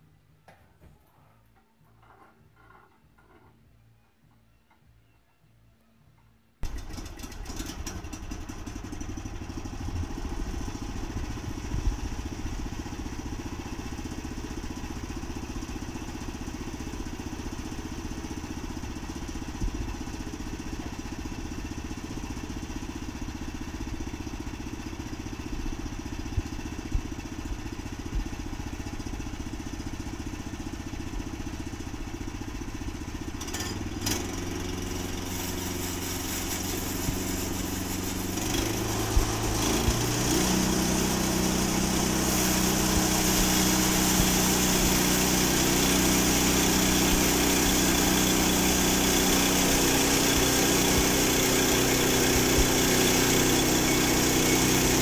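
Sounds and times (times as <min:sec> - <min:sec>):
small gasoline engine running: 0:06.6 - 0:55.0.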